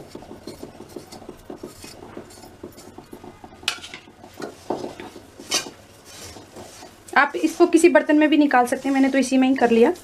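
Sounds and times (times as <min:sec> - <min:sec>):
metal spatula scraping metal pan: 0:00.0 - 0:10.0.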